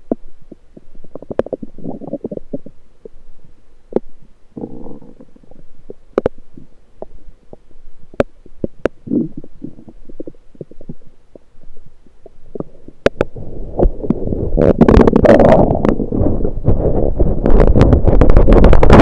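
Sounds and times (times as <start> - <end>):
intestinal gurgling through stethoscope: 0.1 - 2.7, 3.9 - 7.2, 8.2 - 11.4, 12.2 - 19.0.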